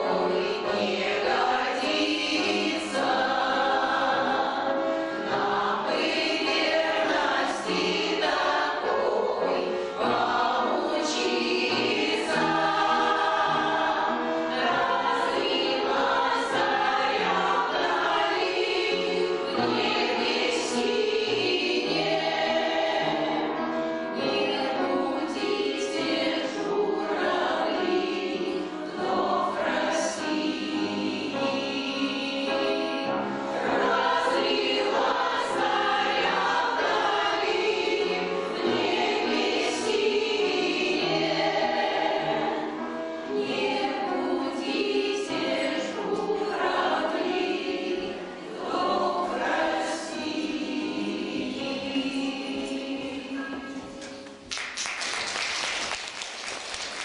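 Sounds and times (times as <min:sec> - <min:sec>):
choir singing: 0:00.0 - 0:54.4.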